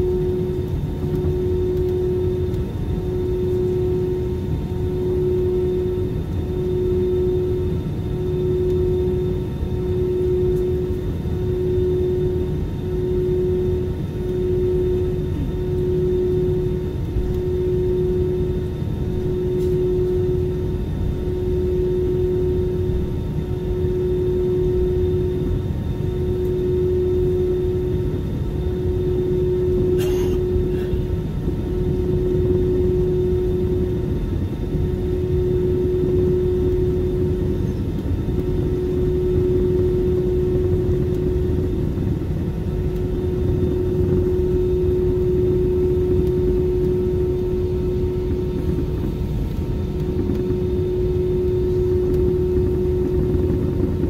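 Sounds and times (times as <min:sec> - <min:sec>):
airliner cabin rumble: 0:00.0 - 0:54.0
steady hum: 0:00.0 - 0:54.0.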